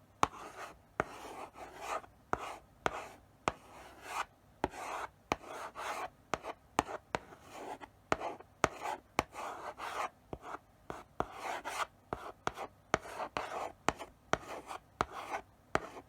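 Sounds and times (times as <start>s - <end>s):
chalk tapping on board: 0.2s - 1.2s, 2.4s - 16.0s
chalk scratching on blackboard: 0.2s - 10.1s, 11.0s - 16.0s.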